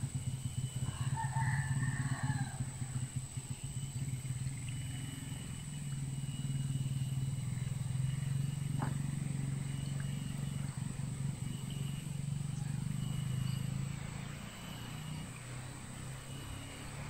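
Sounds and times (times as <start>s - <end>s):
small engine pulsing hum: 0.0s - 17.0s.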